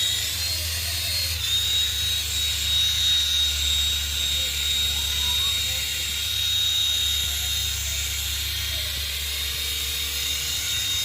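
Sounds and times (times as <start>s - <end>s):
helicopter rotor whine: 0.0s - 11.0s.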